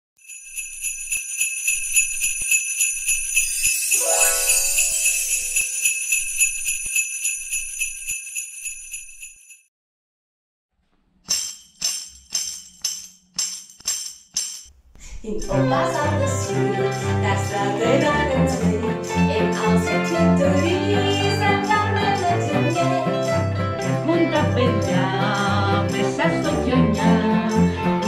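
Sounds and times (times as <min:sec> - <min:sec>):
jingle bells shaking: 0:00.2 - 0:09.7, 0:11.3 - 0:14.7, 0:16.4 - 0:27.8.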